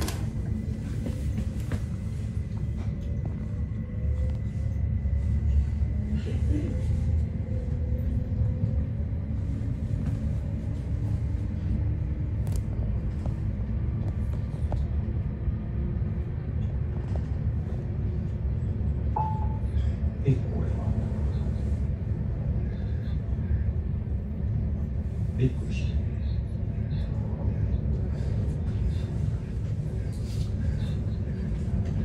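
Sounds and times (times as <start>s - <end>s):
train cabin rumble: 0.0s - 32.0s.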